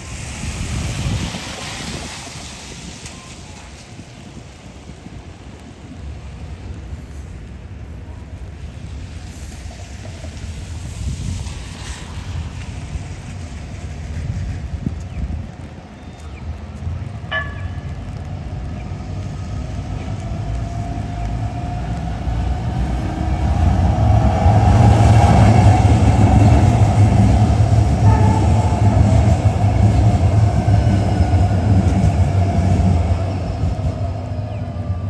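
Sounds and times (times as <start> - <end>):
heavy vehicle low rumble: 0.0 - 35.0.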